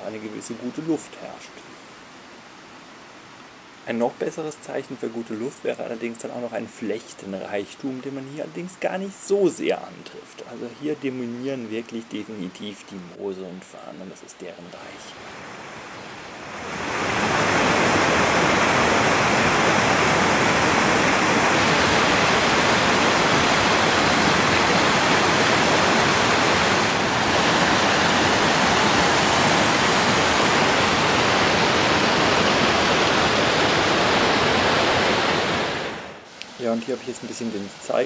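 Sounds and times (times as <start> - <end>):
waterfall rushing: 3.8 - 38.0.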